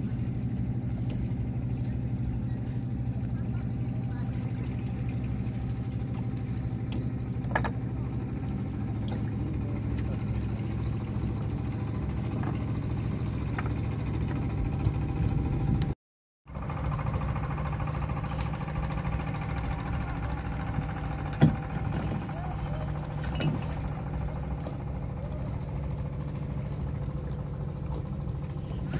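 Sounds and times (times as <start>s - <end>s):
boat engine humming: 0.0s - 28.9s.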